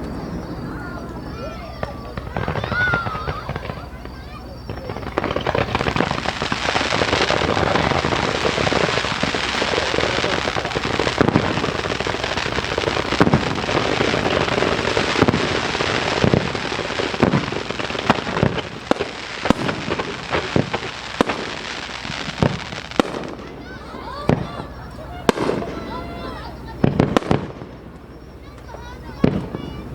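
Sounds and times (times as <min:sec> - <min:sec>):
fireworks barrage: 0:00.0 - 0:29.9
fireworks booms: 0:00.0 - 0:29.9
sharp fireworks bangs: 0:00.0 - 0:29.9.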